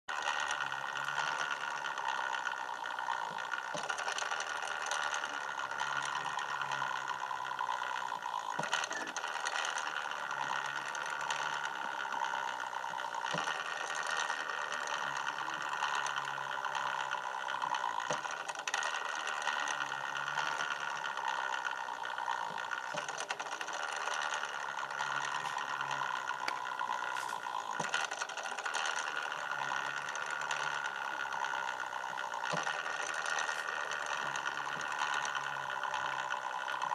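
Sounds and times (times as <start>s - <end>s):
small motor whirring: 0.1s - 36.9s.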